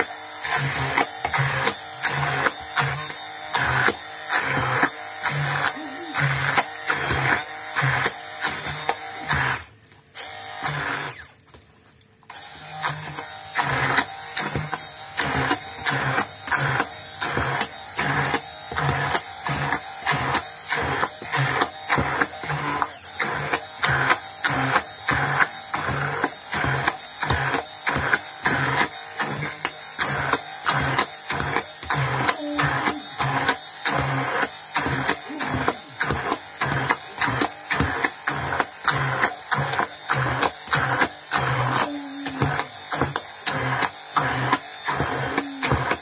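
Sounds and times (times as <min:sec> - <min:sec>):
immersion blender pulsing: 0:00.0 - 0:11.4, 0:12.3 - 0:46.0.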